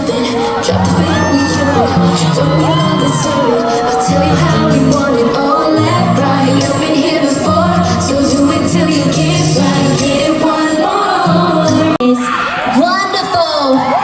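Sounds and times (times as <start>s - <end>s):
amplified pop music with singing: 0.0s - 14.0s
crowd screaming and cheering: 0.0s - 14.0s.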